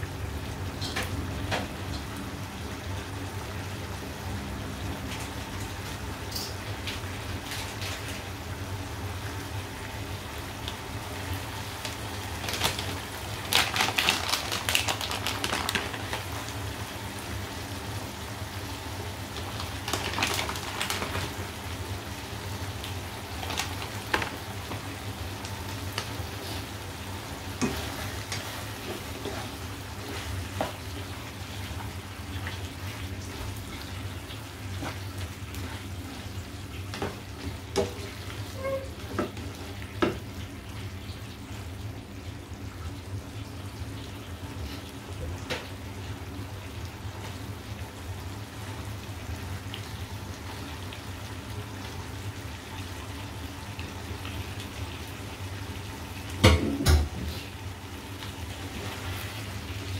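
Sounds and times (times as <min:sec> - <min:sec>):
meat sizzling in a frying pan: 0:00.1 - 0:59.9.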